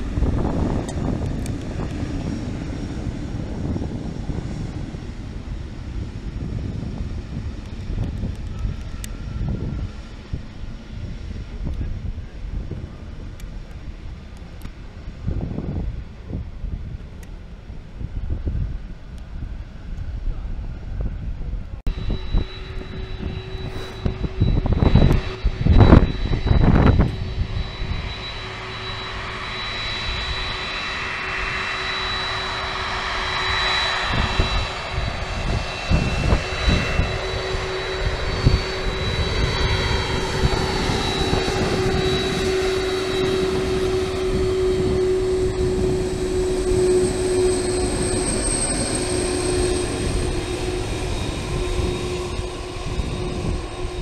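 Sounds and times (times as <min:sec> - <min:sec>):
jet engines roaring with whine: 0:00.0 - 0:54.0
loud low buffets: 0:00.0 - 0:54.0.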